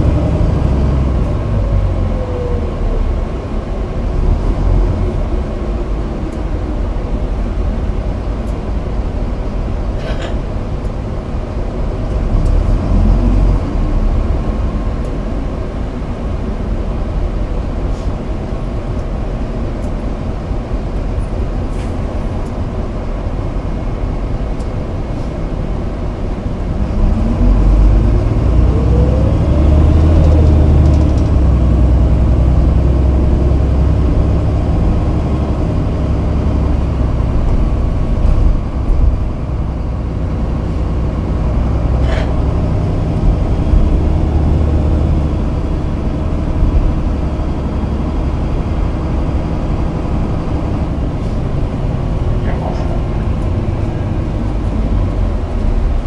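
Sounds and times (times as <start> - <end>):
bus engine rumble: 0.0 - 56.0
rising whine of bus: 0.0 - 56.0.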